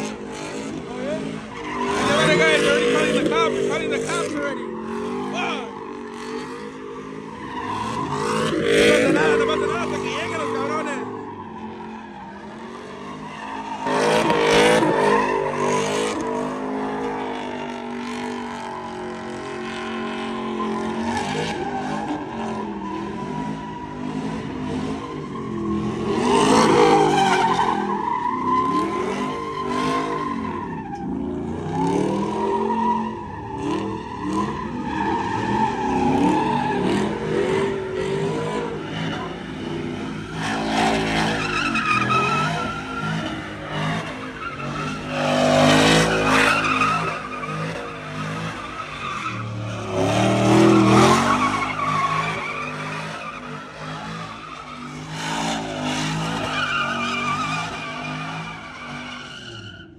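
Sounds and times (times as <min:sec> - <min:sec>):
truck engine revving: 0:00.0 - 0:59.6
tyres squealing on pavement: 0:00.0 - 0:59.9.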